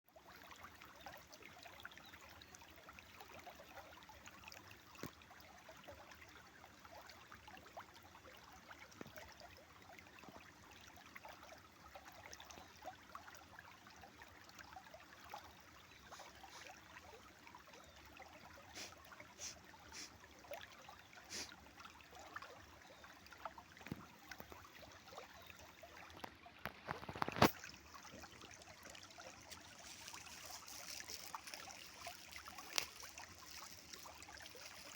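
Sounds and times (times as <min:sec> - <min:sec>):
stream flowing over stones: 0:00.1 - 0:34.9.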